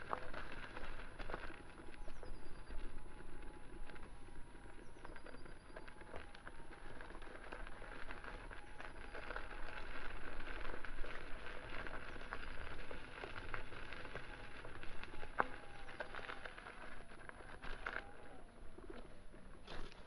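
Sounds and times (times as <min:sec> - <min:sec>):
faint steady whine: 0:00.0 - 0:20.0
tyre crunching over rough path: 0:00.0 - 0:20.0.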